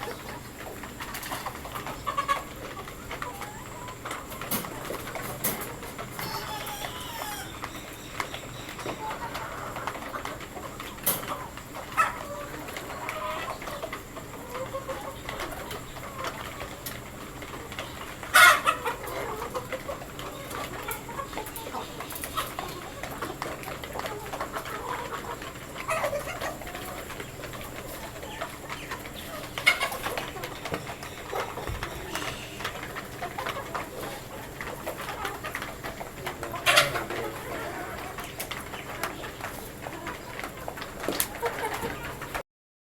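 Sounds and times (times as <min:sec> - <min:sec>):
birds calling: 0:00.0 - 0:16.8, 0:17.5 - 0:35.4
chickens clucking: 0:00.0 - 0:42.4.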